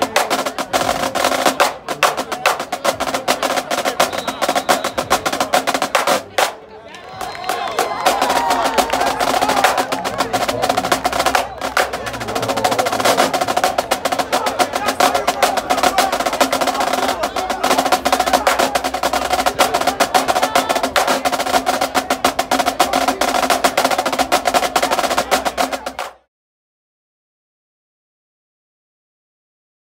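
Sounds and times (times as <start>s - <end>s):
bass drums: 0.0s - 6.6s, 7.2s - 26.2s
snare drums cadence: 0.0s - 6.6s, 7.2s - 26.2s.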